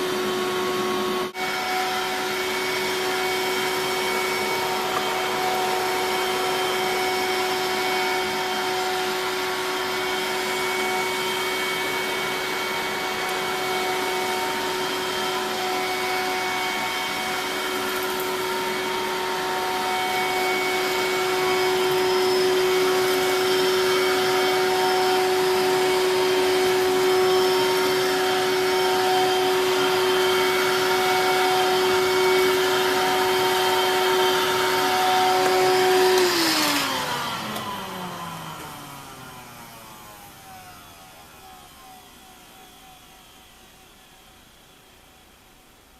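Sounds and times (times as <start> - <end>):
vacuum cleaner motor whining: 0.0 - 45.9.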